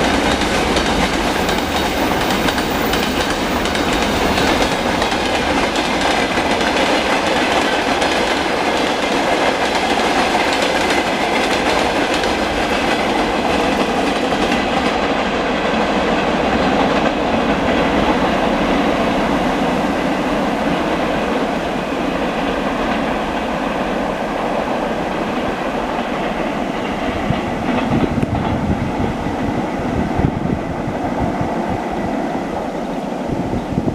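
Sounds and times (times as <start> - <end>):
train wheels clacking on rails: 0.0 - 32.4.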